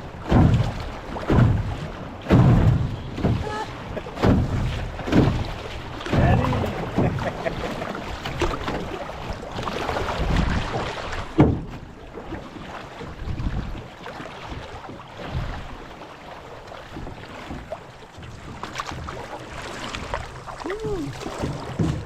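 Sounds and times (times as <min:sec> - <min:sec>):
water splashing around canoe: 0:00.0 - 0:22.0.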